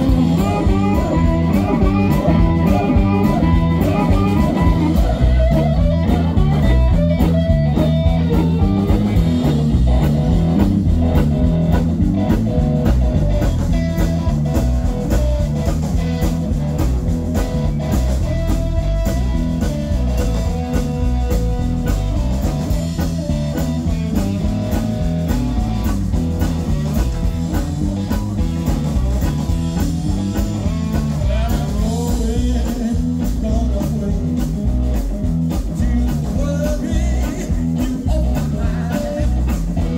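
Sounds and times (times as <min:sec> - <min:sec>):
drums: 0:00.0 - 0:39.9
electric guitar: 0:00.0 - 0:39.9.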